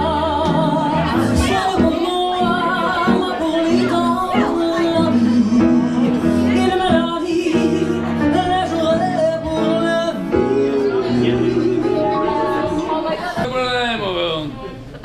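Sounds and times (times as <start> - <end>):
woman singing with vibrato: 0.0 - 13.4
sustained instrumental chords: 0.0 - 14.3.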